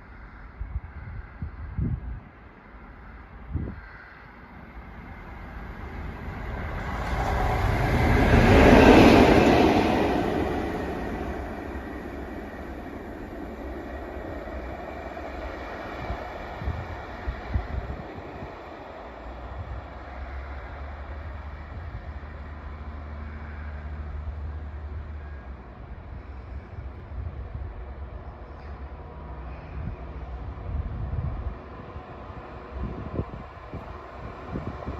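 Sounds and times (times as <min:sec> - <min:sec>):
train rumbling: 0:01.2 - 0:34.9.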